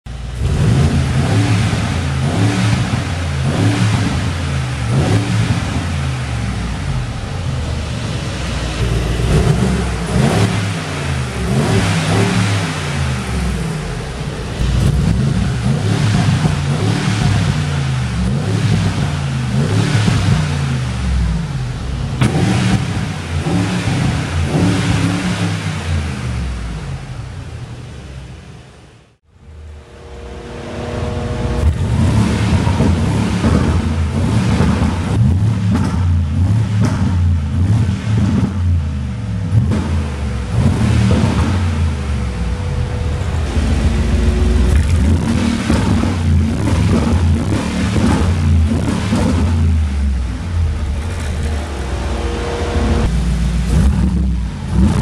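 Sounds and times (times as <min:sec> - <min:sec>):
sharp exhaust cracks: 0:00.1 - 0:27.9, 0:29.4 - 0:55.0
car engine revving: 0:00.1 - 0:55.0.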